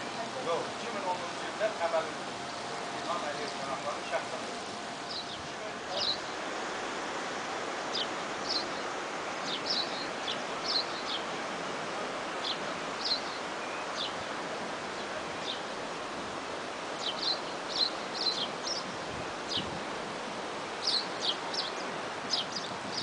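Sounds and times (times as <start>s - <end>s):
steady rushing noise: 0.0s - 23.0s
small birds chirping: 1.4s - 6.5s, 7.4s - 15.8s, 16.8s - 19.7s, 20.6s - 23.0s.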